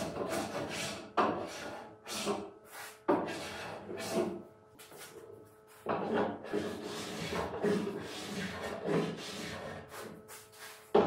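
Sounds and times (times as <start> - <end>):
sanding block scraping wood: 0.0 - 11.0.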